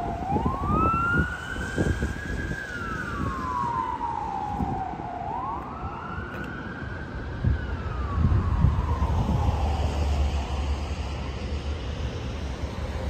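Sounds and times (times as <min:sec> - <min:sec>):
ambulance siren wailing: 0:00.0 - 0:11.7.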